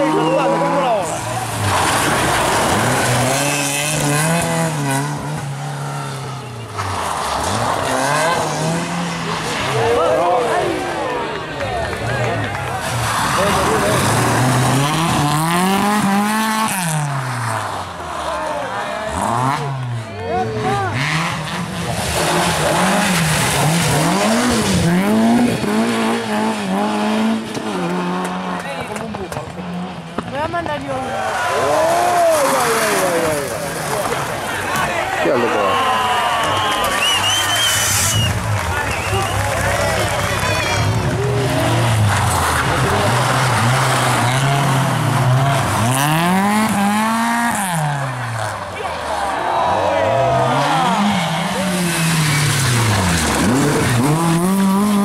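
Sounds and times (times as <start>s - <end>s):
car accelerating: 0.0s - 55.0s.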